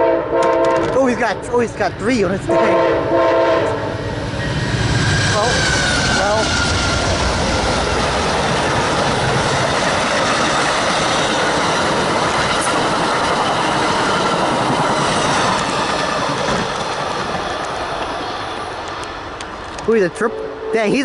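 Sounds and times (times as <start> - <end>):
train wheels rumbling on rails: 0.3 - 21.0.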